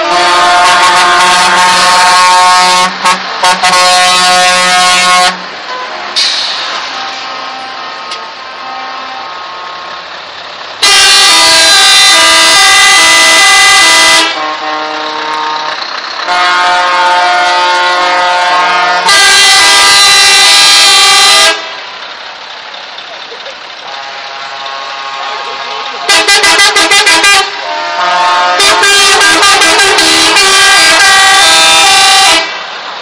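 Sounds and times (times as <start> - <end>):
truck air horns blasting: 0.0 - 10.2, 10.8 - 21.9, 23.8 - 32.7
truck diesel engine passing: 0.0 - 33.0.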